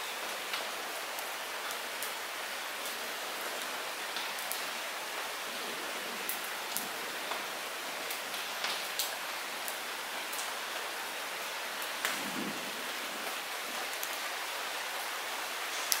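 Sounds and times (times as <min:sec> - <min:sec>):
light rain hissing: 0:00.0 - 0:16.0
raindrops ticking on surfaces: 0:00.0 - 0:16.0.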